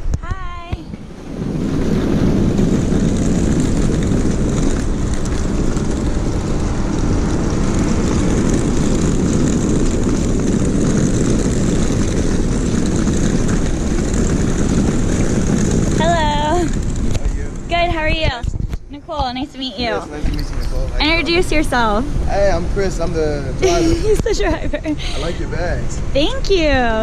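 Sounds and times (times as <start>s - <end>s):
aircraft engine drone: 0.8s - 26.6s.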